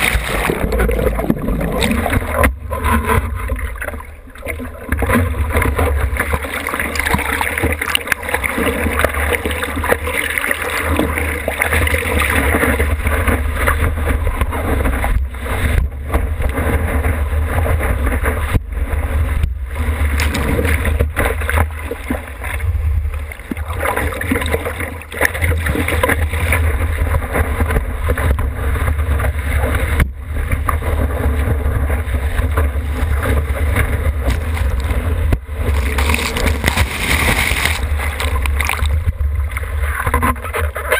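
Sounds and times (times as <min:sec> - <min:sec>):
deep buffeting rumble: 0:00.0 - 0:07.4, 0:08.2 - 0:40.8
water rushing over surfboard: 0:00.0 - 0:40.9.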